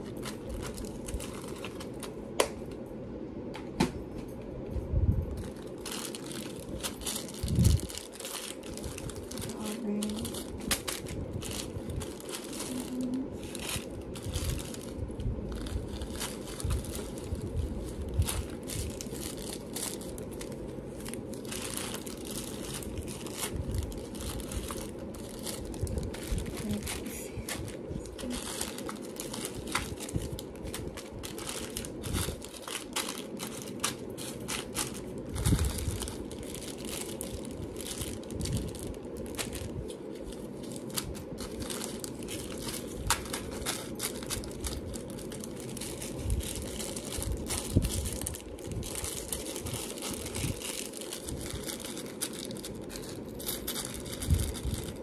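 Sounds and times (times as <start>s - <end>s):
packets crinkling and rustling: 0.0s - 2.8s, 5.3s - 55.0s
low background hum: 0.0s - 55.0s.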